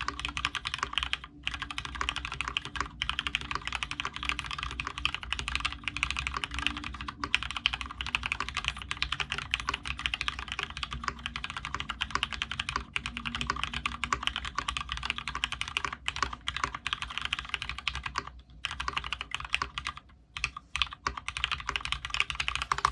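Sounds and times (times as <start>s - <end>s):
mechanical keyboard typing: 0.0s - 22.9s.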